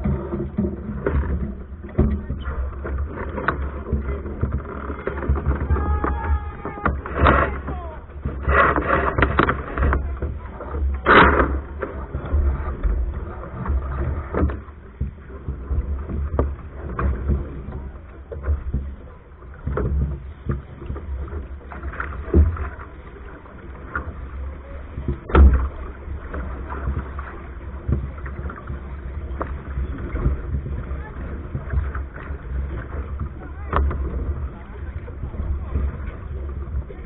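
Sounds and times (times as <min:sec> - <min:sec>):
water rushing along hull: 0:00.0 - 0:37.0.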